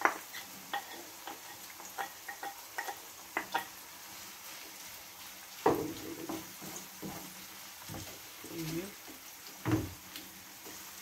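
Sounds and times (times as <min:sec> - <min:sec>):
faint sizzle: 0:00.0 - 0:11.0
spoon stirring onions in a pan: 0:00.0 - 0:11.0.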